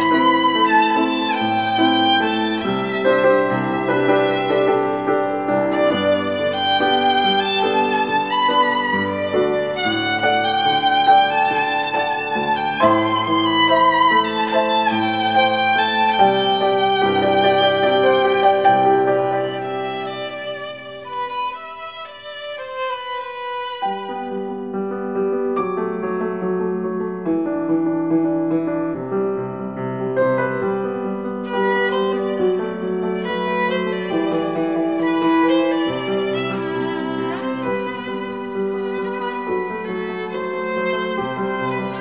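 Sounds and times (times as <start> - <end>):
piano accompaniment: 0.0 - 42.0
violin melody: 0.0 - 42.0.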